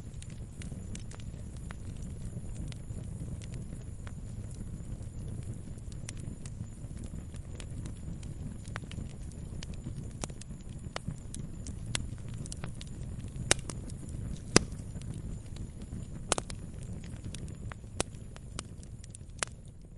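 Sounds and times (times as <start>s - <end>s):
campfire crackling: 0.0s - 19.9s
low steady rumble: 0.0s - 19.9s.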